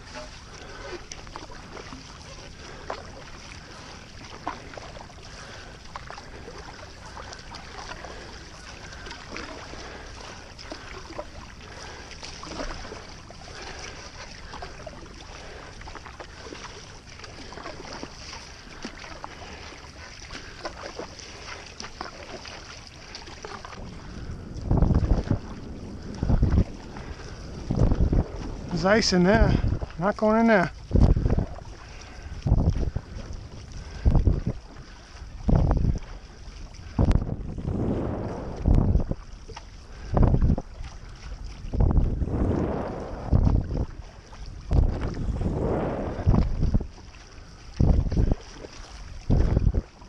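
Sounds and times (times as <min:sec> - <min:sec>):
paddle strokes through water: 0:00.0 - 0:50.0
small water splashes: 0:00.0 - 0:50.0
water trickling: 0:00.0 - 0:50.0.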